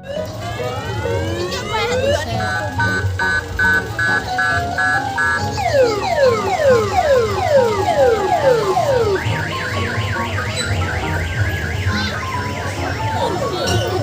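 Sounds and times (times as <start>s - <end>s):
electronic siren sweeping and warbling: 0.0s - 14.0s.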